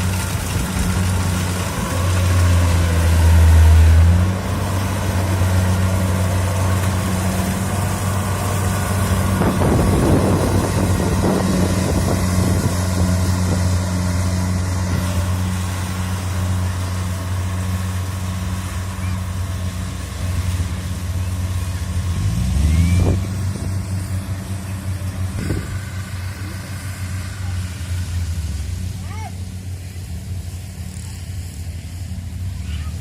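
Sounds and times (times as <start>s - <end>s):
combine harvester diesel engine: 0.0s - 33.0s.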